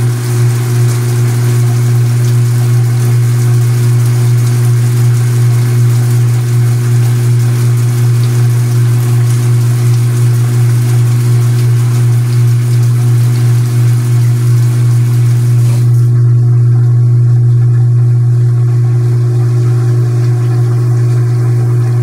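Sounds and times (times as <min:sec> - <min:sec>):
washing machine motor hum: 0:00.0 - 0:22.0
water streaming into tub: 0:00.0 - 0:22.0.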